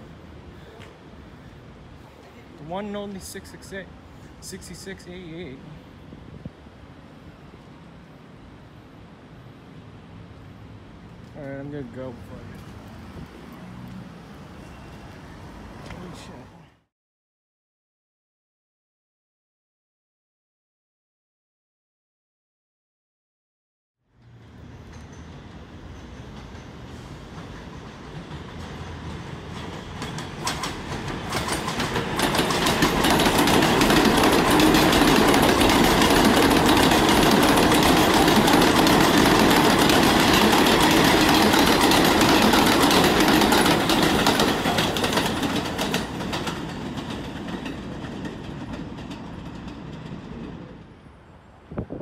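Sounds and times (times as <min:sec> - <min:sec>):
subway train rumble and clatter: 0:00.0 - 0:16.5, 0:24.1 - 0:52.0.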